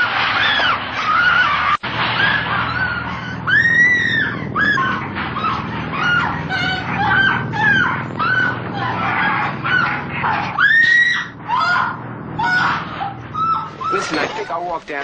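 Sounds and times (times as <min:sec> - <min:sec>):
low droning rumble: 0:00.0 - 0:15.0.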